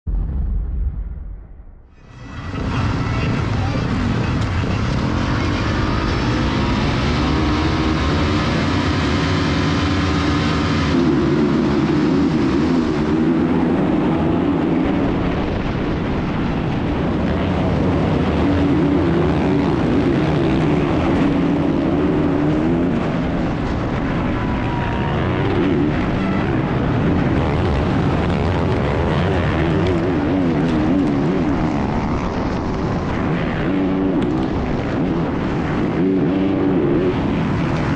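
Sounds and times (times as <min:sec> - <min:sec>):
dirt bike engine revving: 0:02.5 - 0:15.1, 0:17.0 - 0:37.9.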